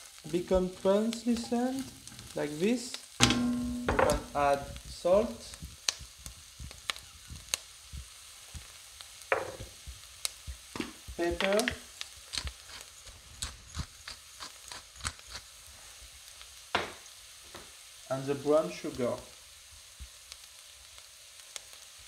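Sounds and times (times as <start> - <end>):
onions sizzling in butter: 0.0 - 22.0.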